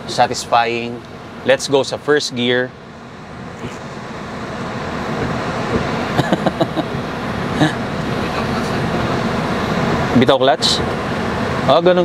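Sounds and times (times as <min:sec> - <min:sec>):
truck cab engine rushing noise: 0:00.0 - 0:12.0.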